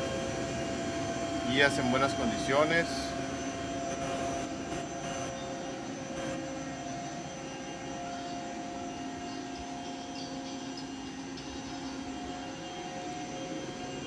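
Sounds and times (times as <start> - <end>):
lathe machine hum: 0.0 - 14.0.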